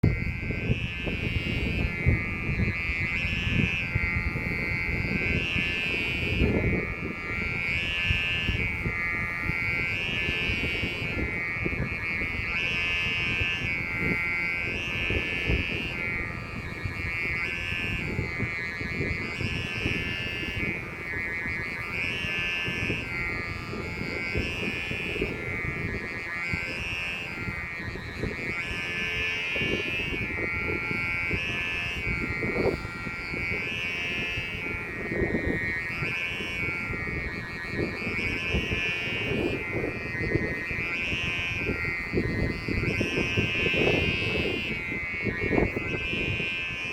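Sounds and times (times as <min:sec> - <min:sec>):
high-pitched pulsing buzz: 0:00.0 - 0:46.9
wind buffeting microphone: 0:00.0 - 0:46.9.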